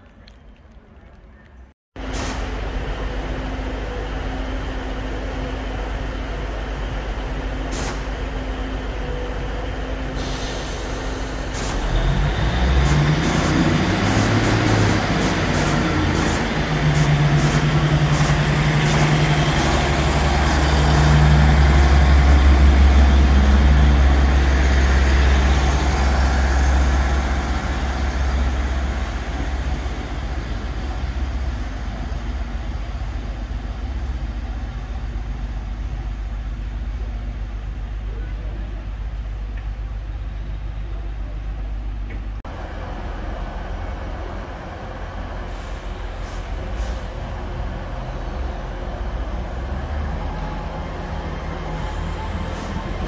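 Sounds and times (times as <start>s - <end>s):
train diesel engines idling and revving: 0.0s - 53.0s.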